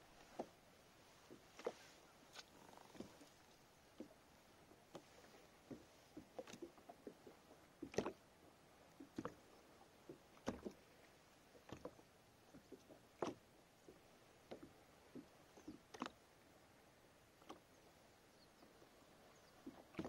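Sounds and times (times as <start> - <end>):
waves lapping against kayak hull: 0.0 - 20.0.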